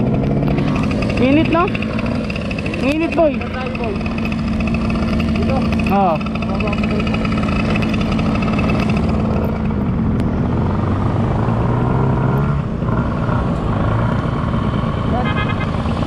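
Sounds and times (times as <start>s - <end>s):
motor scooter engine running: 0.0s - 16.0s
road and wind noise: 0.0s - 16.0s.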